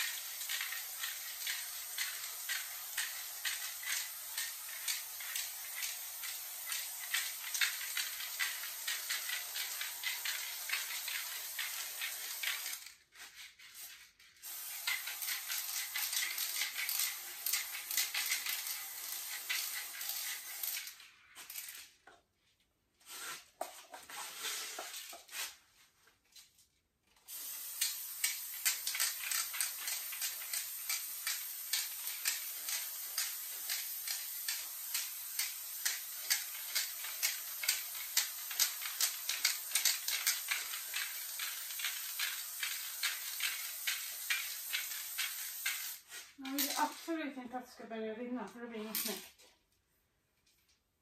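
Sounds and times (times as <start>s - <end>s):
spray can hissing: 0.0s - 21.8s, 27.3s - 47.3s.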